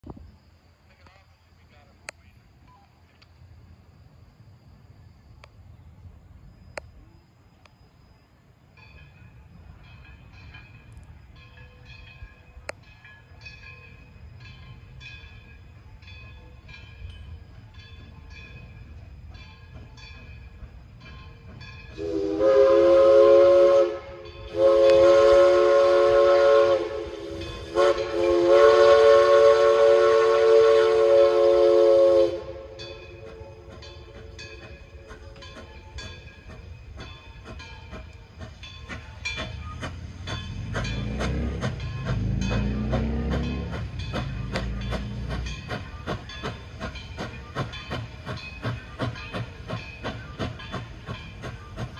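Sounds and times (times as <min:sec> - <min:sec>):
train rumbling on track: 0:00.0 - 0:51.9.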